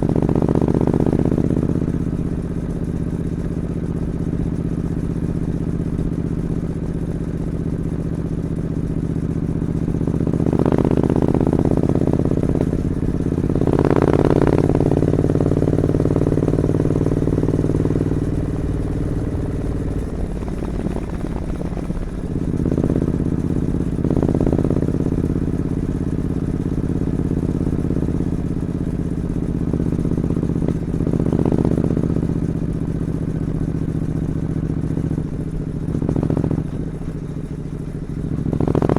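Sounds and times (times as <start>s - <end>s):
motorcycle engine idling with revs: 0.0s - 38.9s.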